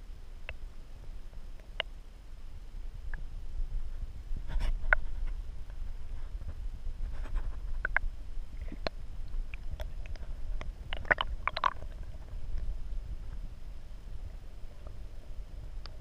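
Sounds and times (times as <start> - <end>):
underwater rumble of moving water: 0.0 - 16.0.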